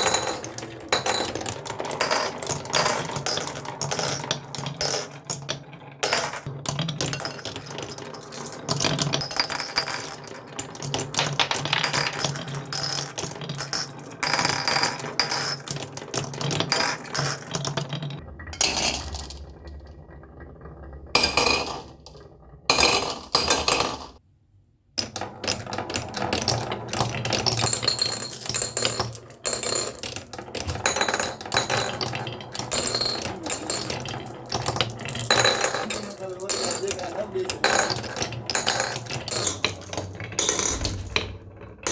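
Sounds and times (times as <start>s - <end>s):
marbles clattering down wooden tracks: 0.0s - 24.2s, 25.0s - 41.9s.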